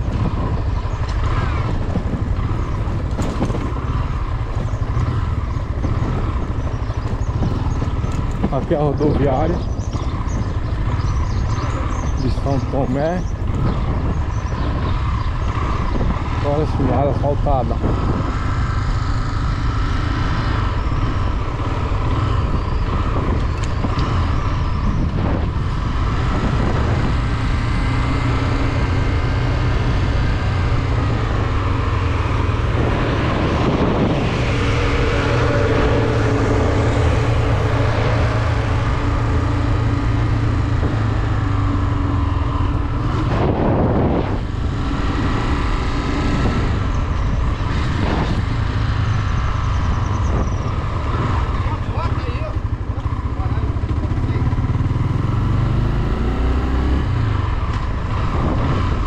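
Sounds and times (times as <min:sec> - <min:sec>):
constant rushing noise: 0:00.0 - 0:59.0
motorcycle engine running: 0:00.0 - 0:59.0.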